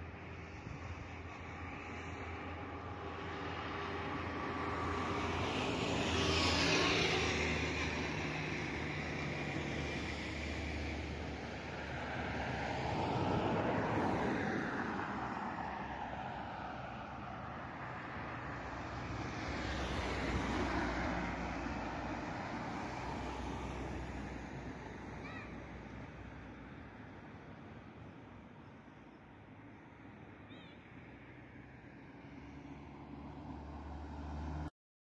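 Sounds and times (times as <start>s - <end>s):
rushing road noise: 0.0s - 34.7s.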